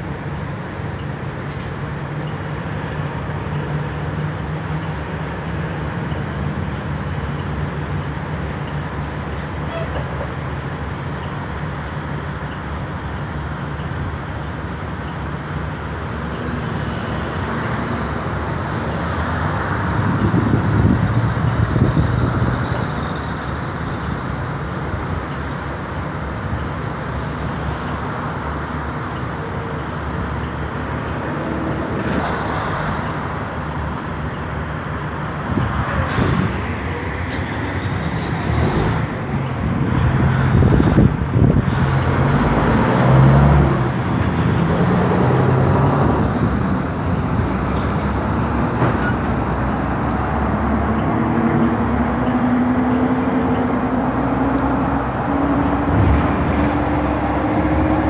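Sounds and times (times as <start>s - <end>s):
bus diesel engine humming: 0.0s - 58.0s
road traffic: 0.0s - 58.0s.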